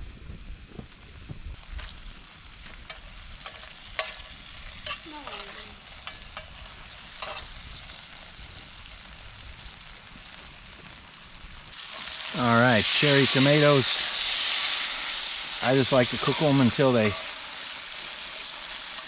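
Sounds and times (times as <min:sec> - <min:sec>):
tomatoes sizzling in a pan: 0:00.5 - 0:19.0
sharp popping of frying: 0:00.8 - 0:19.0.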